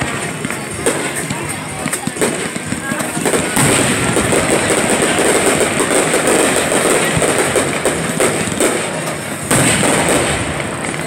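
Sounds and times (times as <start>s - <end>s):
fireworks bursting and crackling: 0.0s - 11.0s
sharp firework bangs: 0.0s - 11.0s.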